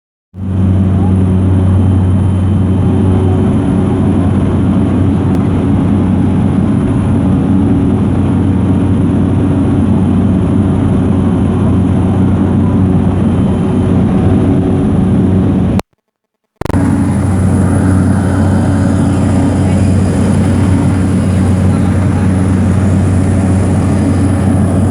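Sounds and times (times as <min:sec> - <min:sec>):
aircraft engines droning in cabin: 0:00.4 - 0:15.8, 0:16.7 - 0:24.9.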